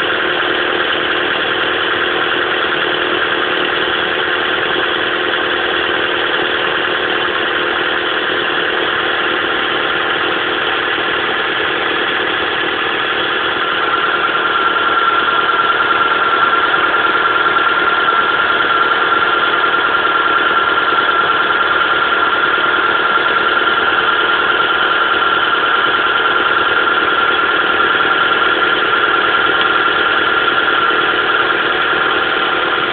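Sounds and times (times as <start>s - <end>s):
engine idling with misfire: 0.0s - 32.9s
steady high whine: 0.0s - 32.9s.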